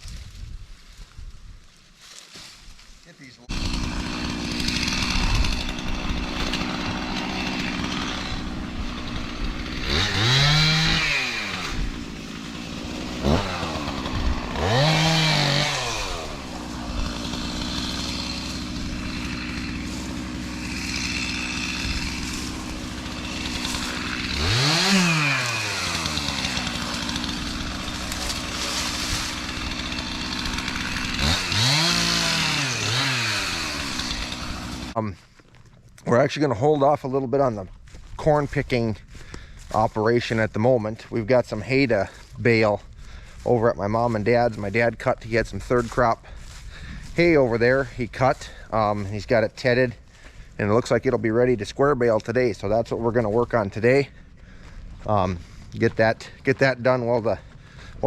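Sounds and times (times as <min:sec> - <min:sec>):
chainsaw idling and revving: 0:03.4 - 0:35.2, 0:38.4 - 0:58.0.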